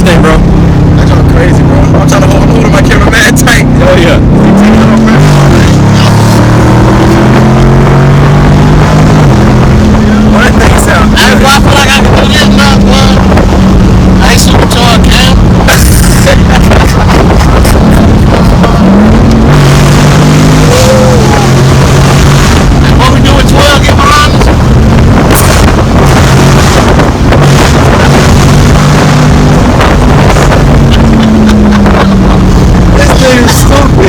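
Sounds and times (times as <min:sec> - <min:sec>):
car engine and exhaust: 0:00.0 - 0:34.0
wind buffeting microphone: 0:00.0 - 0:34.0.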